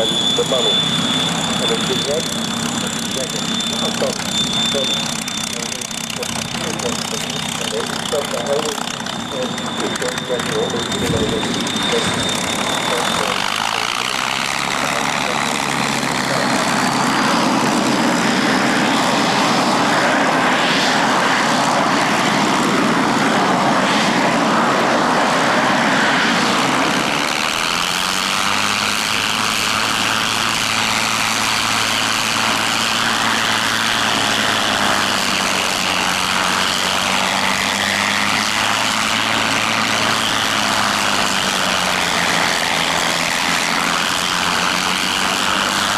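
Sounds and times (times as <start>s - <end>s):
propeller aircraft engine running: 0.0s - 45.9s.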